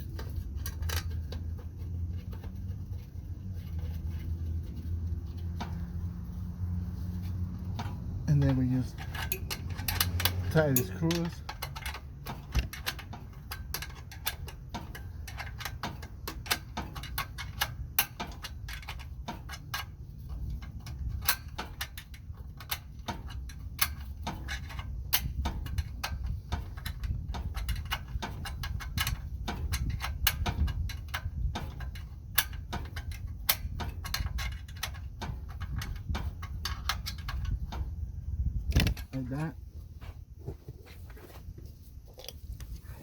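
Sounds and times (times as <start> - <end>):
ratchet clicking: 0.0 - 38.1.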